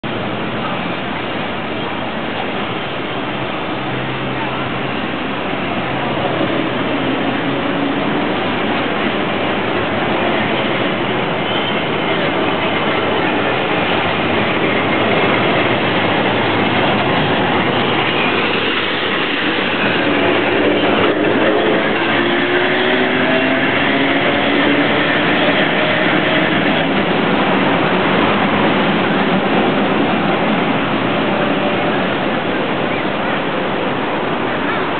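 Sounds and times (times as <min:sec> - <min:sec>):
streetcar running on rails: 0:00.0 - 0:34.9.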